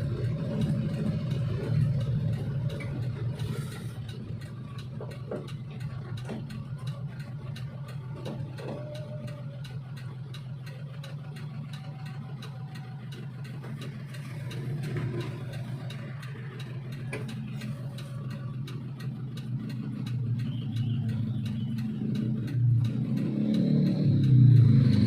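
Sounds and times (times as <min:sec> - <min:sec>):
light regular ticking: 0:00.0 - 0:25.0
van engine idling: 0:00.0 - 0:25.0.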